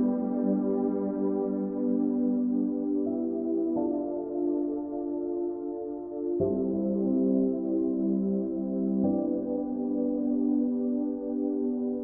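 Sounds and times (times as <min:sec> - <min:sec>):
ambient music of held chords: 0:00.0 - 0:12.0.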